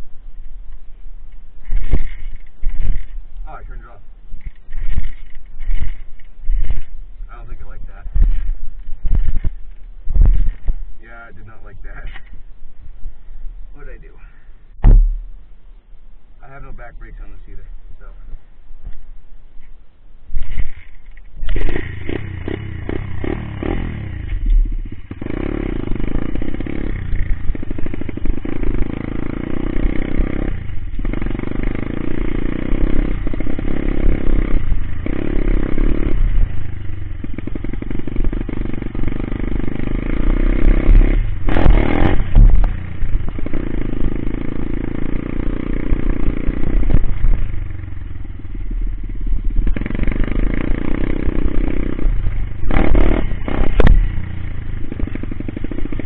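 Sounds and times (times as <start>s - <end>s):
motorbike engine revving: 1.6s - 12.4s, 20.4s - 56.0s.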